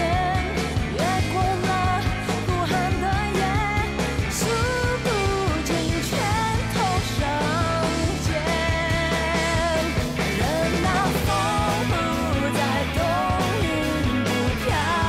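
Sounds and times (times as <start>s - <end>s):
song with vocals and band: 0.0s - 15.0s.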